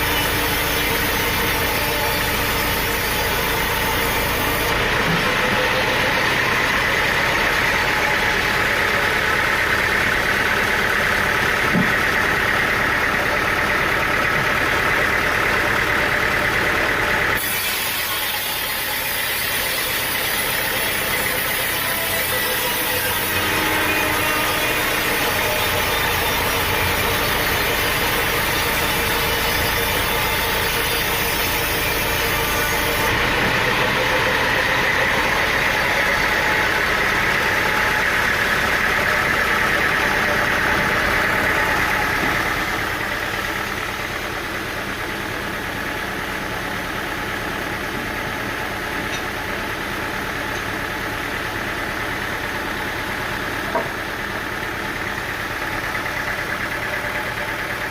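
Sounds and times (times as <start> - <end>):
sawmill machinery running: 0.0 - 57.9.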